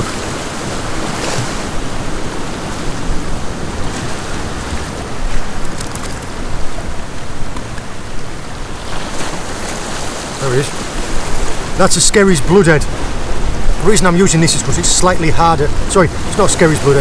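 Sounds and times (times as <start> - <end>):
sea breaking against rocks: 0.0 - 7.9, 8.8 - 17.0
wind buffeting microphone: 0.0 - 17.0.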